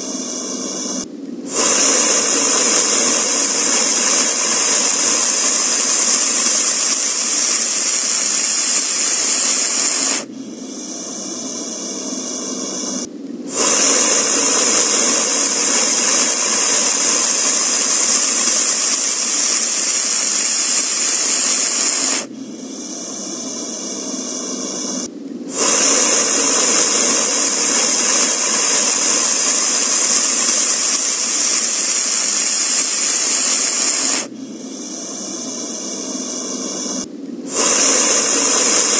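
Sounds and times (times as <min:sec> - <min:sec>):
loud steady hiss: 0:00.0 - 0:38.9.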